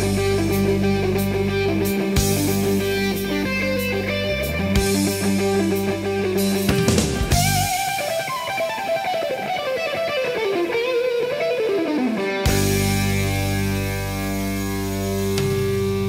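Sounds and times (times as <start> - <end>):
guitar music: 0.0 - 16.0.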